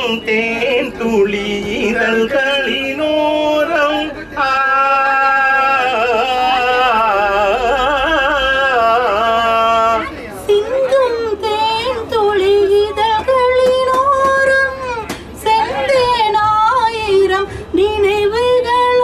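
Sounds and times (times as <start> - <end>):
man singing through loudspeakers: 0.0 - 19.0.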